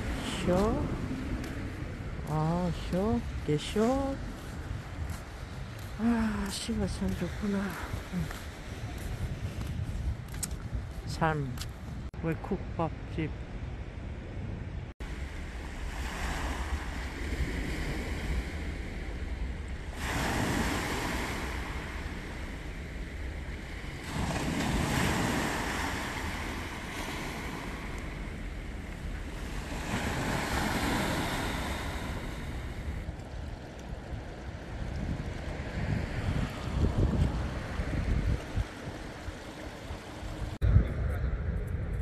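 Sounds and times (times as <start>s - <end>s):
waves on pebble beach: 0.0s - 9.5s, 15.0s - 40.6s
wind rumbling on microphone: 0.0s - 42.0s.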